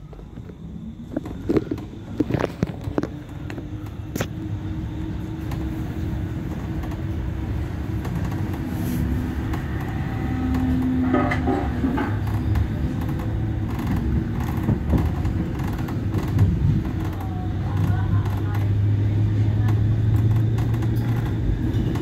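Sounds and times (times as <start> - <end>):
tram running gear rumble: 0.0 - 22.0.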